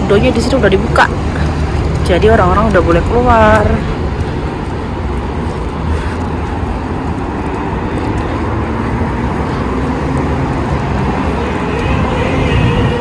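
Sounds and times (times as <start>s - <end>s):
cars passing on busy street: 0.0s - 13.0s.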